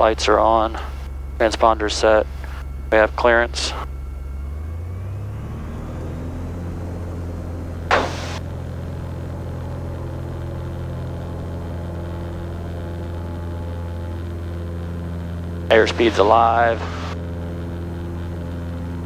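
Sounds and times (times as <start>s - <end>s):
propeller plane engine revving: 0.0s - 19.0s.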